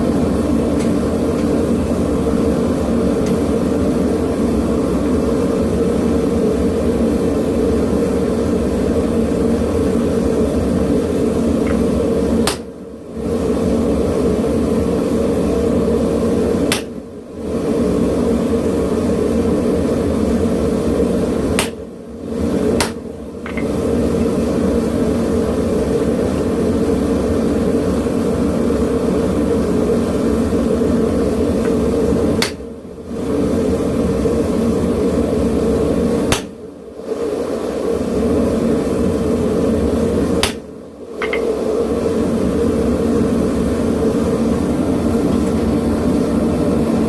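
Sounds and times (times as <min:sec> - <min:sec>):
gas burner roaring: 0:00.0 - 0:47.0.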